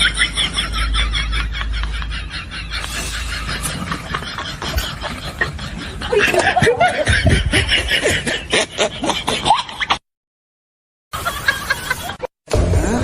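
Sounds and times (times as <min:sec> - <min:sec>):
laughing sound effect: 0:00.0 - 0:10.0, 0:11.2 - 0:12.3.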